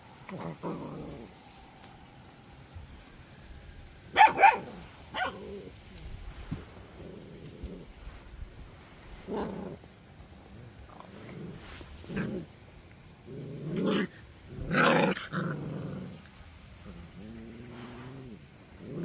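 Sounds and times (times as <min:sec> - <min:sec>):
puppies growling: 0:00.0 - 0:01.9, 0:04.2 - 0:19.0.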